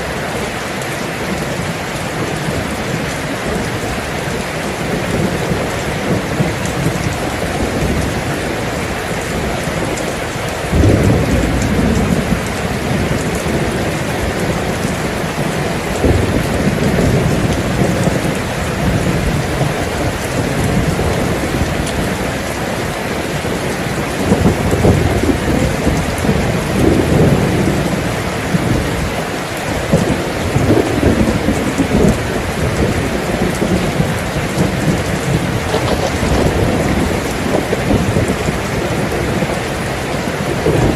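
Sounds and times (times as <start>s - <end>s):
heavy rain falling: 0.0s - 40.9s
thunder rumbling: 0.0s - 40.9s.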